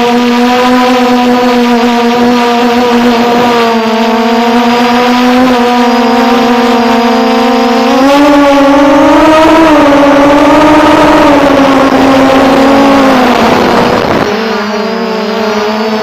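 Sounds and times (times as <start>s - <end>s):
small off-road vehicle engine: 0.0s - 16.0s.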